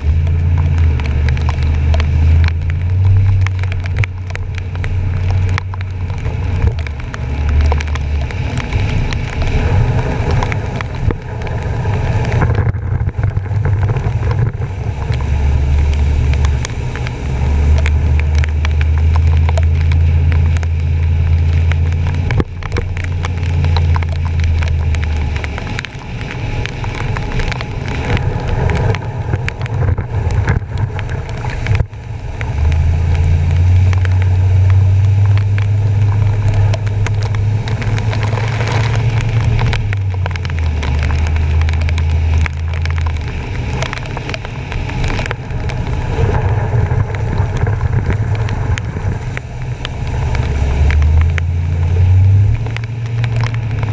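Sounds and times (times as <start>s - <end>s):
rain: 0.0s - 53.9s
truck low rumble: 0.0s - 53.9s
water splashing under truck: 0.0s - 53.9s.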